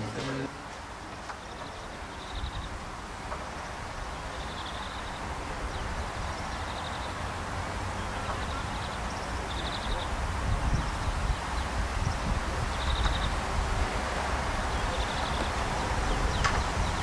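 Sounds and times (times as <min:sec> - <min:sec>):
wind buffeting microphone: 0:02.0 - 0:17.0.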